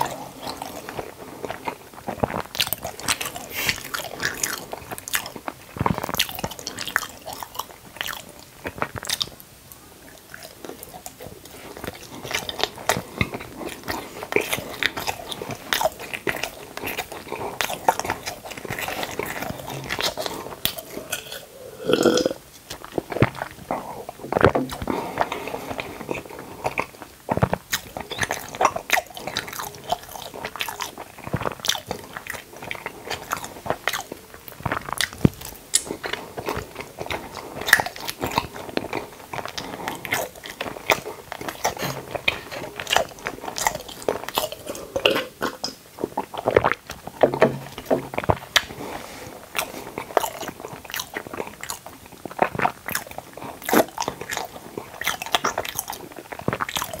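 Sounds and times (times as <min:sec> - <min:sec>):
crunchy chewing: 0:00.0 - 0:09.5, 0:10.1 - 0:57.0.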